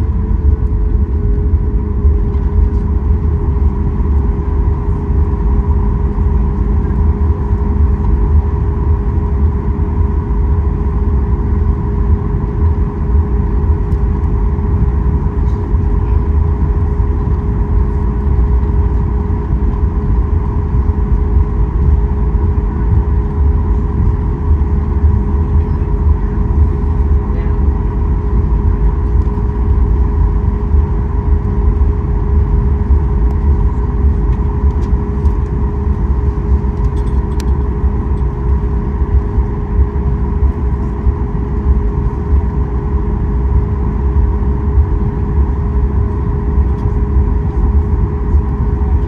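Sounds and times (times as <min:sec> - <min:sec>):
jet engines humming: 0:00.0 - 0:49.0
low rumble: 0:00.0 - 0:49.0.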